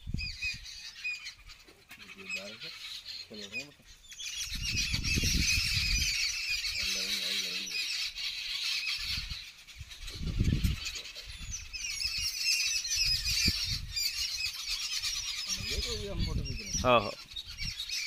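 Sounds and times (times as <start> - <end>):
sparrows chirping: 0.0 - 18.0.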